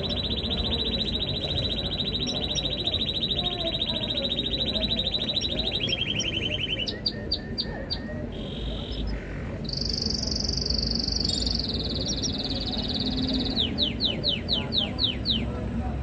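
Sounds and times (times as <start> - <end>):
canary singing trills: 0.0 - 15.6.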